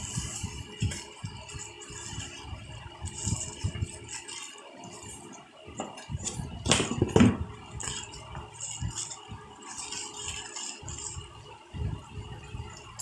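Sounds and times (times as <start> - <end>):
bubble wrap crinkling: 0.0 - 5.4, 6.0 - 11.6.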